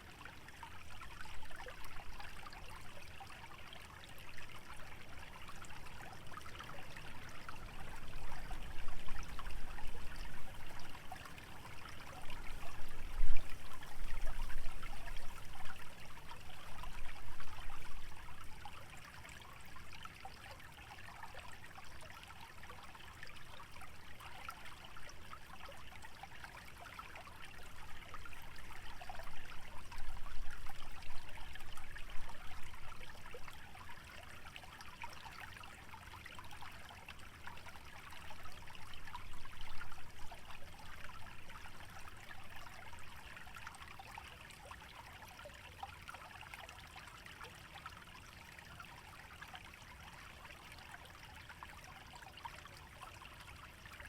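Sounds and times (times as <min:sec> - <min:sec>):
small stream trickling: 0:00.0 - 0:54.0.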